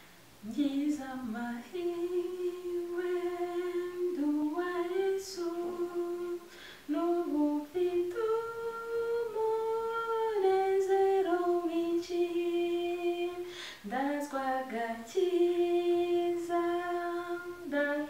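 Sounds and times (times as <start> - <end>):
woman singing a hymn unaccompanied: 0.4 - 18.0.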